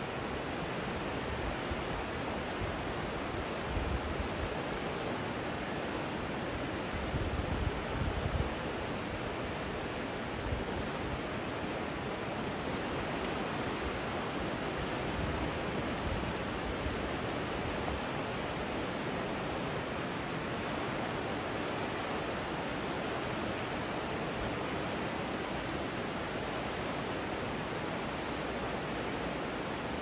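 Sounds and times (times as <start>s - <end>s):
river rushing: 0.0s - 30.0s.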